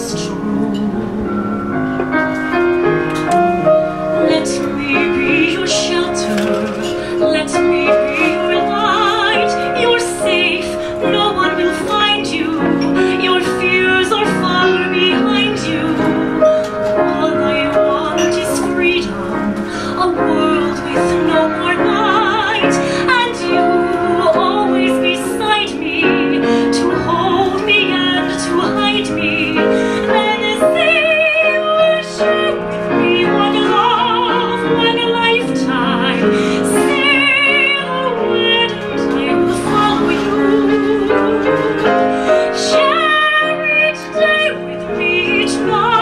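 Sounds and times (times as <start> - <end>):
woman singing a ballad: 0.0 - 2.3, 3.7 - 46.0
piano accompaniment: 0.0 - 46.0.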